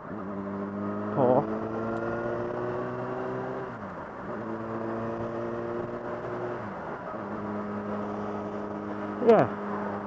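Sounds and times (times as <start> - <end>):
motorcycle engine running: 0.0 - 3.6, 4.3 - 10.0.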